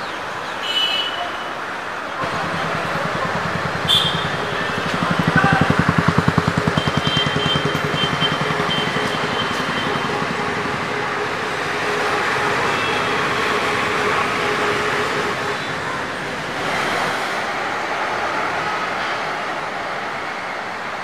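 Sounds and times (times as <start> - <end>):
rush of passing vehicles: 1.6 - 21.0.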